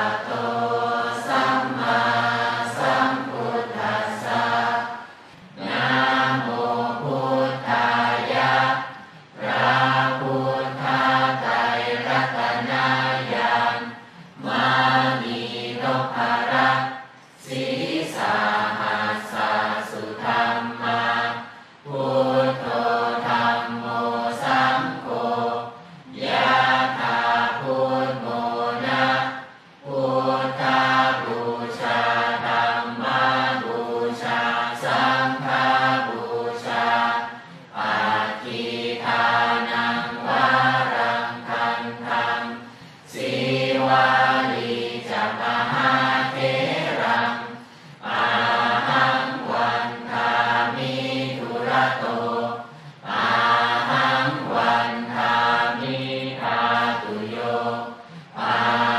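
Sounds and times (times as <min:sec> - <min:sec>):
crowd chanting in unison: 0:00.0 - 0:58.9.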